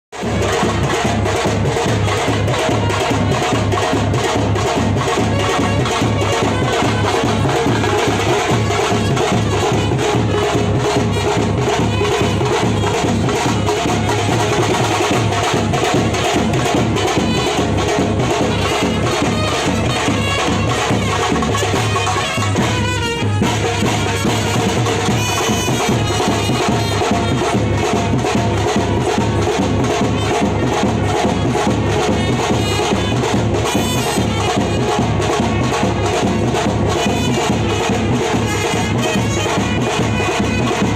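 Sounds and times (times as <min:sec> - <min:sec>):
music with driving percussion beat: 0:00.1 - 0:40.9.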